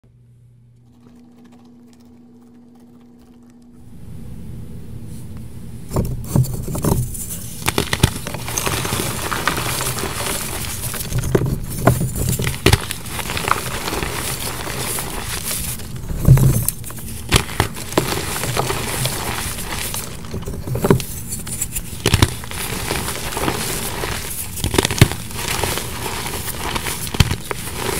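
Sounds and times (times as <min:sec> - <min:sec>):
faint low hum: 0:00.0 - 0:27.9
chalk crunching and crackling: 0:05.1 - 0:27.9.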